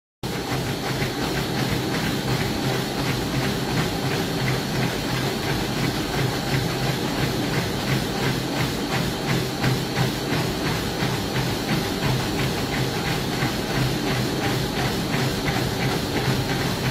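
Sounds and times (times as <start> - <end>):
running footfalls on treadmill belt: 0.2 - 16.9
treadmill motor hum and belt hiss: 0.2 - 16.9.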